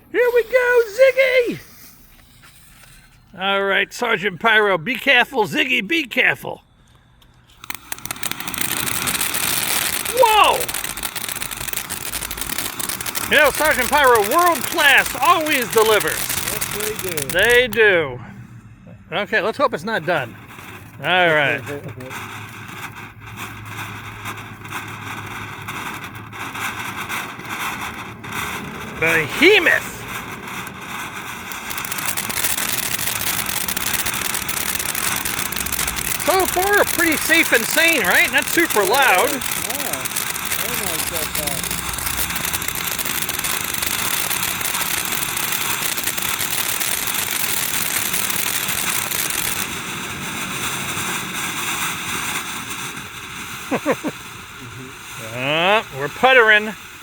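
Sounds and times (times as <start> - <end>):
fireworks crackling hiss: 0.0 - 57.0
faint firework pops: 6.9 - 17.9, 20.2 - 55.4.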